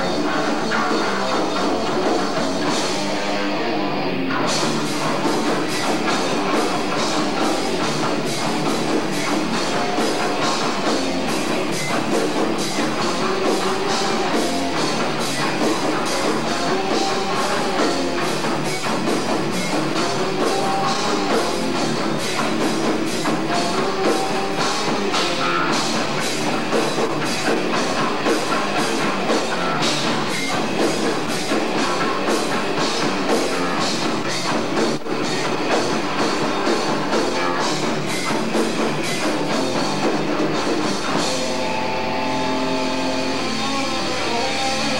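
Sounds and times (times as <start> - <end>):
drum kit fast beat: 0.0 - 3.4, 4.3 - 44.9
electric guitars: 0.0 - 44.9.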